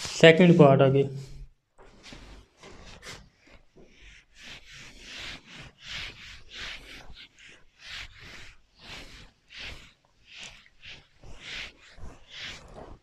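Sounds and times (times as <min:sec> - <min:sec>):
eraser rubbing on whiteboard: 0:00.0 - 0:00.7, 0:02.0 - 0:13.0.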